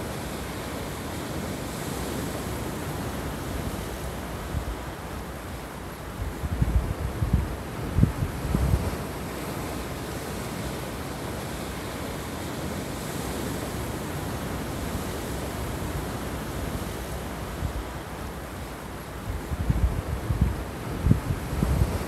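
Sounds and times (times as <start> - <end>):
waves washing over rocks and pebbles: 0.0 - 22.0.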